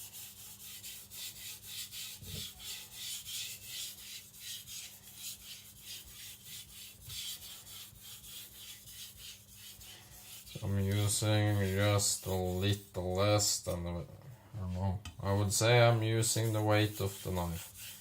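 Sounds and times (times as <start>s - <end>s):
knife scraping on whetstone: 0.0s - 12.8s, 16.2s - 18.0s.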